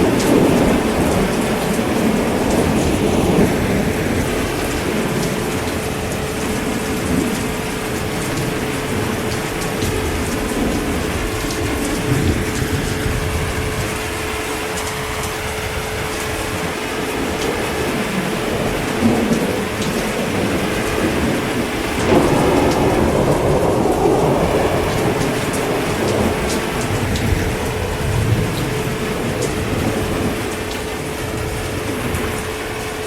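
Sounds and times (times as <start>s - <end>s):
heavy rain: 0.0s - 33.0s
thunder rumbling: 0.0s - 33.0s.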